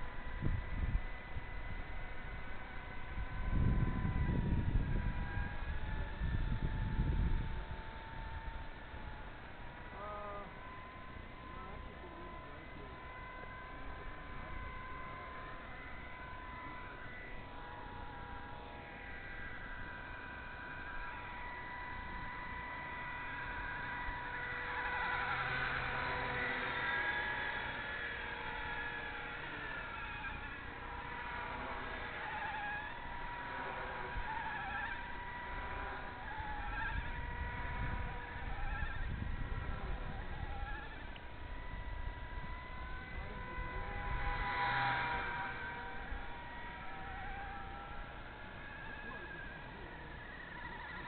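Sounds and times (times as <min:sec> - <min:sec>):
rc helicopter whine: 0:00.0 - 0:51.0.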